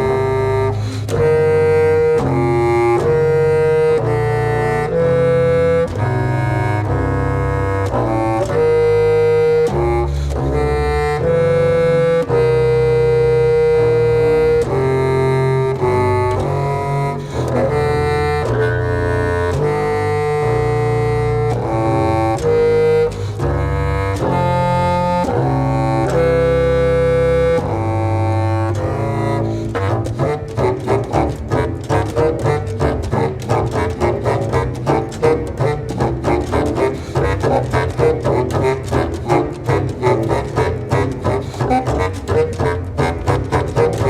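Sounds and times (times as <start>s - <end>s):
clarinet playing held notes: 0.0s - 44.0s
double bass low notes: 0.0s - 44.0s.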